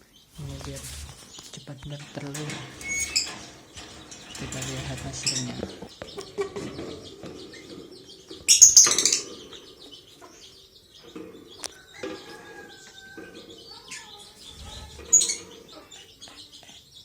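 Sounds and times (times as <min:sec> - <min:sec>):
lovebirds chirping: 0:00.0 - 0:17.0.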